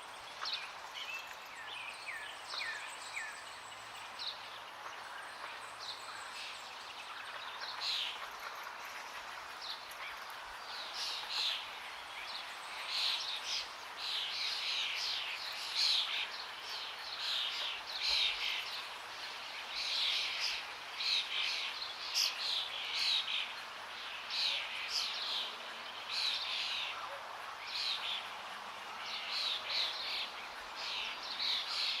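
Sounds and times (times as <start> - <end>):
forest birds chirping: 0.0 - 32.0.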